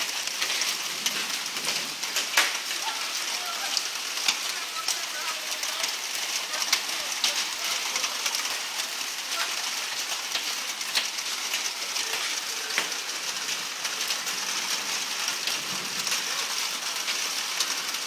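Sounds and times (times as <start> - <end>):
hail and rain hissing: 0.0 - 18.0
hailstones clicking on cars: 0.0 - 18.0.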